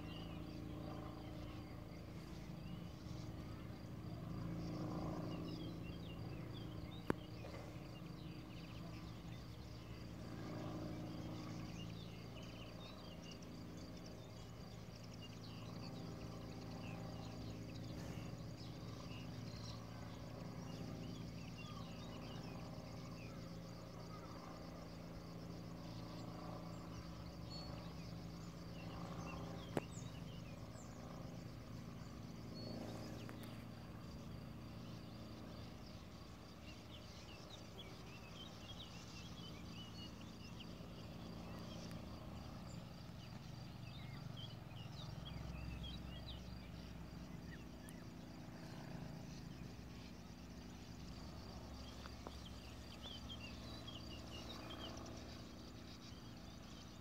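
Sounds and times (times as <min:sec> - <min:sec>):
birds chirping and twittering: 0:00.0 - 0:57.0
steady low hum: 0:00.0 - 0:57.0.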